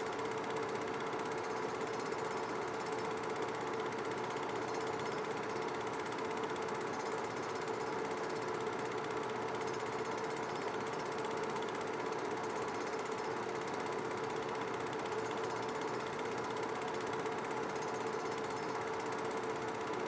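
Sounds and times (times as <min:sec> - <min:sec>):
film projector whirring and clattering: 0:00.0 - 0:20.0.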